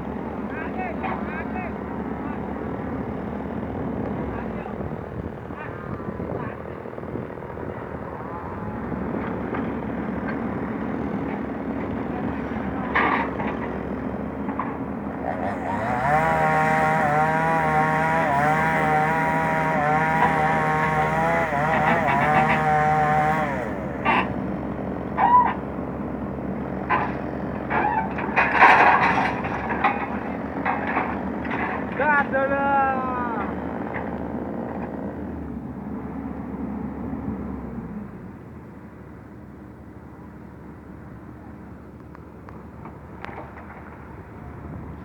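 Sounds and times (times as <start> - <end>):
excavator diesel engine: 0.0 - 45.0.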